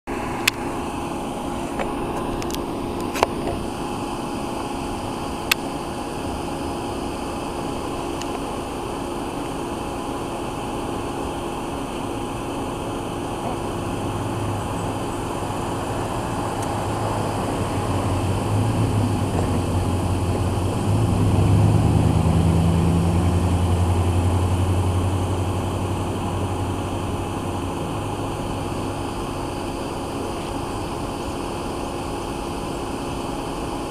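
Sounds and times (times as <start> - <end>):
locomotive engine drone: 0.0 - 33.9.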